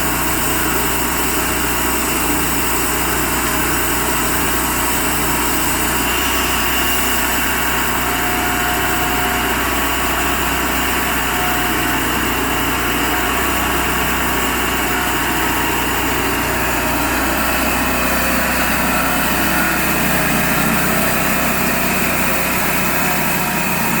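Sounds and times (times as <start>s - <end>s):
band sawmill sawing through log: 0.0s - 24.0s.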